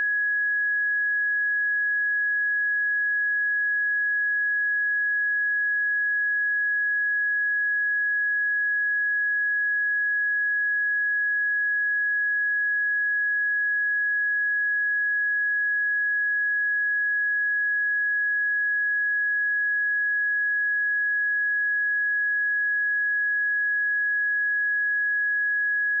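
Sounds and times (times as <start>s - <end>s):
sine test tone: 0.0s - 26.0s.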